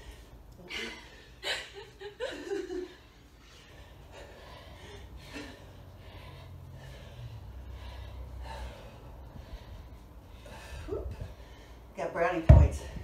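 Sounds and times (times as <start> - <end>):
women breathing hard: 0.0 - 12.0.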